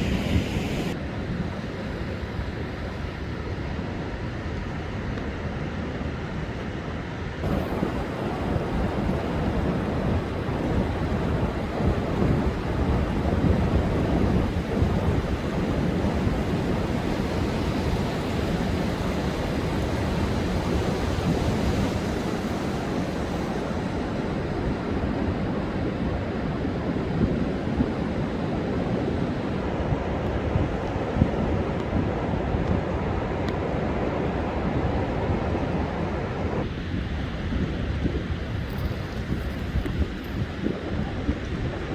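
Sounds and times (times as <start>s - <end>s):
wind buffeting microphone: 0.0s - 1.7s, 7.4s - 41.9s
storm surf crashing on beach: 0.0s - 3.8s, 7.4s - 41.9s.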